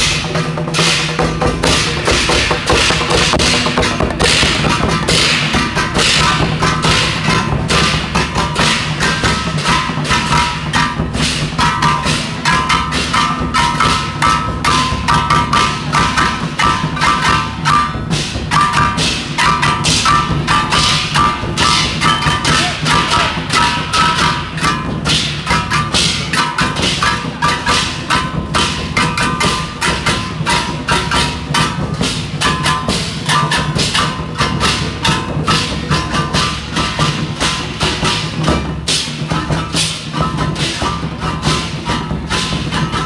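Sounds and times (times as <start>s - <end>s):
cymbals crashing: 0.0s - 43.0s
drums beating fast: 0.0s - 43.0s
gongs ringing: 0.0s - 43.0s.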